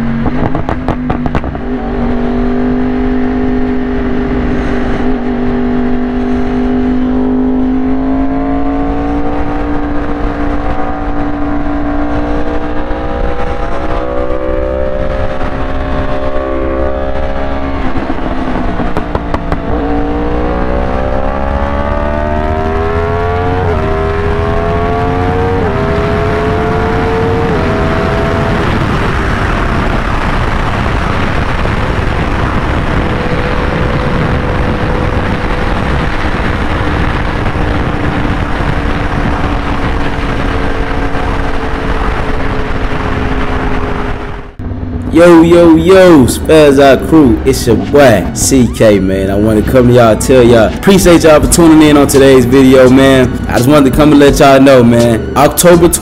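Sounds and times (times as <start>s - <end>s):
motorcycle engine revving: 0.0s - 56.0s
wind and road rush: 0.0s - 56.0s.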